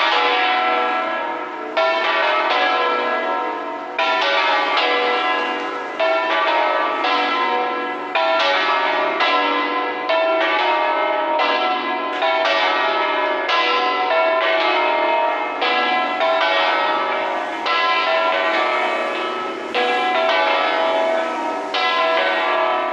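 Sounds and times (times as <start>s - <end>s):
church bells ringing a peal: 0.0s - 22.9s.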